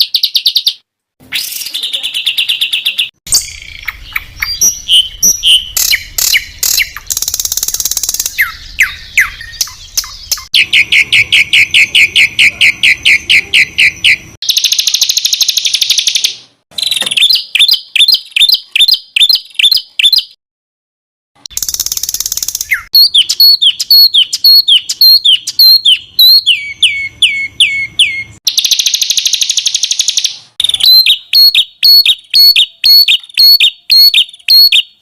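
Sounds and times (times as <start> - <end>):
high repeated bird notes: 0.0 - 20.4, 21.5 - 35.0
songbird chirps and whistles: 0.0 - 20.4, 21.5 - 35.0.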